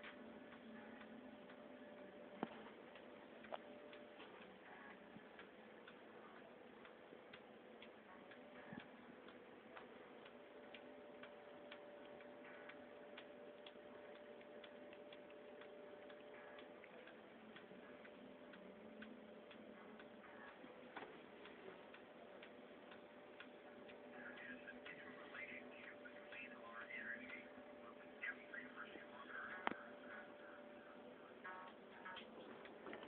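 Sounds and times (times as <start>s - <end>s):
faint steady hum: 0.0s - 33.0s
faint uneven ticking: 0.0s - 33.0s.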